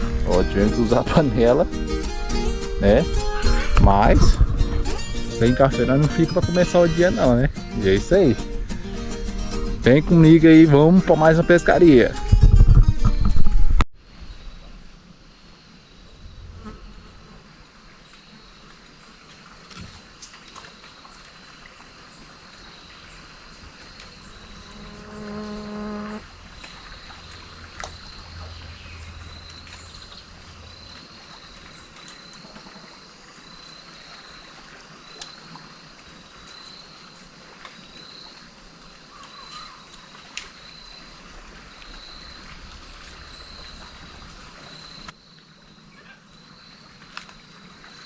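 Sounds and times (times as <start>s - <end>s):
flowing water: 0.0s - 13.6s, 14.6s - 45.6s, 46.6s - 48.0s.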